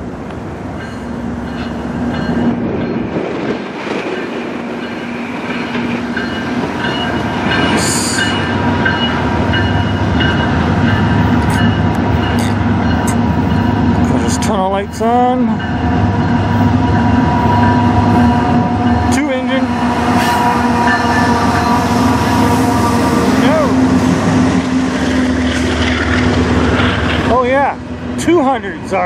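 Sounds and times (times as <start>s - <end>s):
diesel locomotive engine: 0.0s - 29.0s
train rail rumble: 0.0s - 29.0s.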